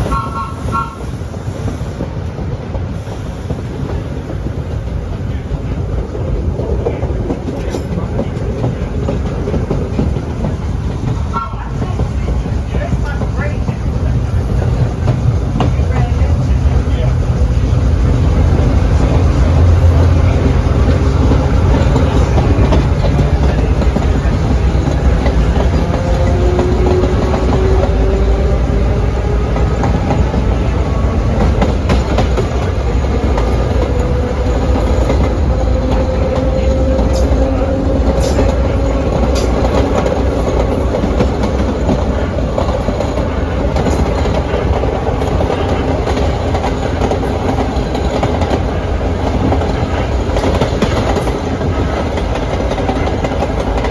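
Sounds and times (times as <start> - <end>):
sharp clicks from rails: 0.0 - 53.9
train wheel and track rumble: 0.0 - 53.9.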